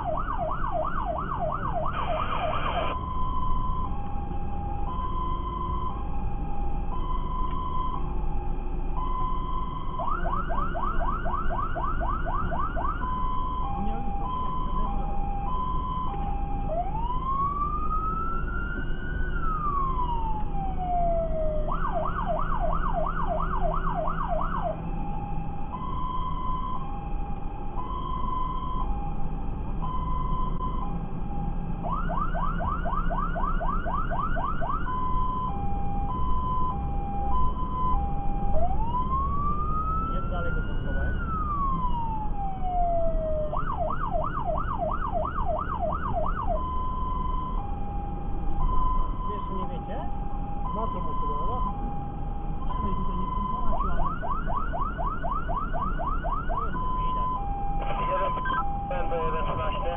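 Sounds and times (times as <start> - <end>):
electronic siren yelping and wailing: 0.0 - 29.2, 29.8 - 59.9
engine and road rumble: 0.0 - 59.9.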